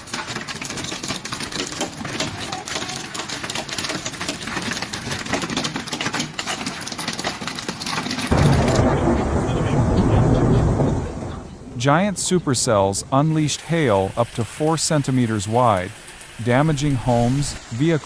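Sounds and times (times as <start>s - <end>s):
hailstones pelting a hard surface: 0.0s - 18.0s.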